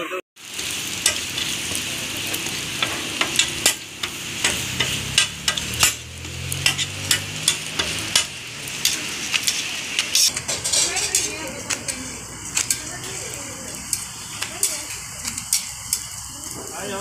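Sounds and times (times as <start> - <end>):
bread sizzling in oil: 0.4 - 17.0
metal tongs clicking on griddle: 1.0 - 1.8, 2.8 - 16.2.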